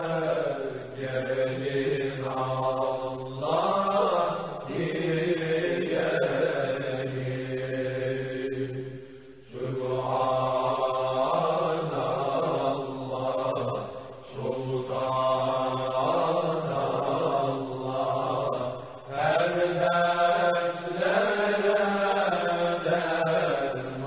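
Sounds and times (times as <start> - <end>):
religious chanting: 0.0 - 24.0.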